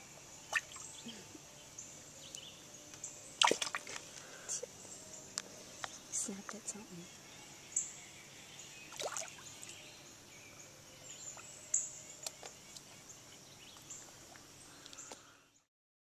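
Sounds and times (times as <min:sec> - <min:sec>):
steady high hiss: 0:00.0 - 0:15.6.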